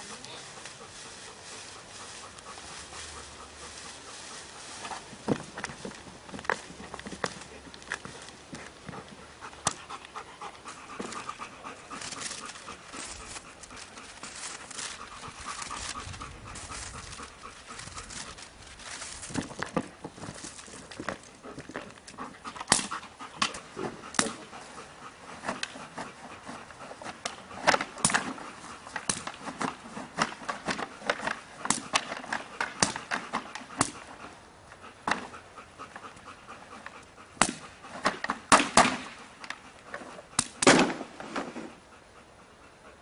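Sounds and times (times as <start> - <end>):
dog panting: 0.0 - 38.5, 41.6 - 43.0.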